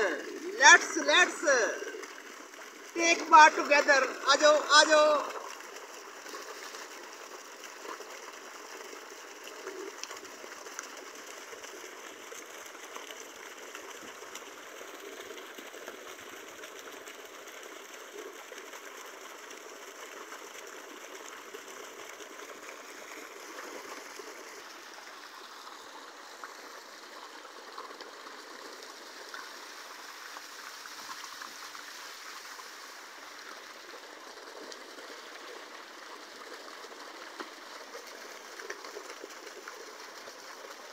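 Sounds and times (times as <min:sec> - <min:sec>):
water rushing in a concrete tank: 0:00.0 - 0:40.9.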